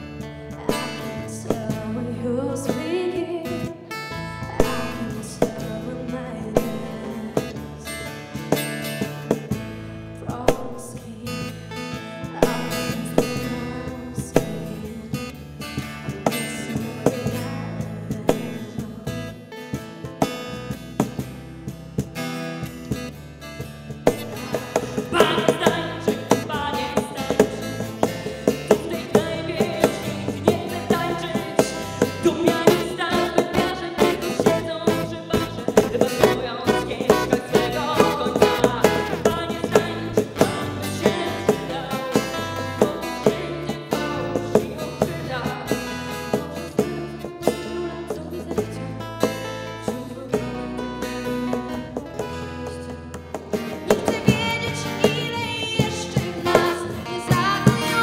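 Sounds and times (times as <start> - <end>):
acoustic guitar: 0.0 - 58.0
bass guitar: 0.0 - 58.0
drums: 0.0 - 58.0
woman singing: 0.1 - 9.4, 10.2 - 19.6, 24.3 - 58.0.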